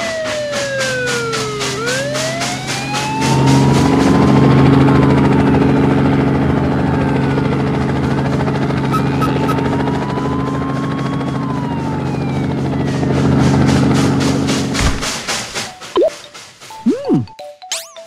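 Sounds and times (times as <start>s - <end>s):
cartoon helicopter hum and whine: 0.0s - 18.0s.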